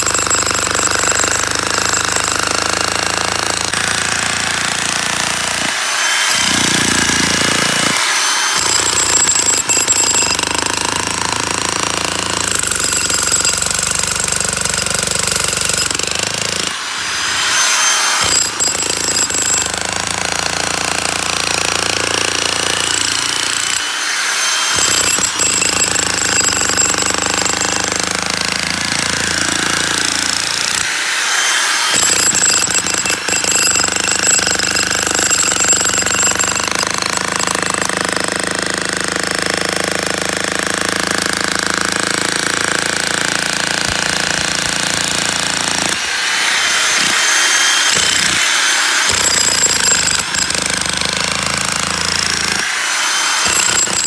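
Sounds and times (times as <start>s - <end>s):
demolition hammer on concrete: 0.0s - 54.0s.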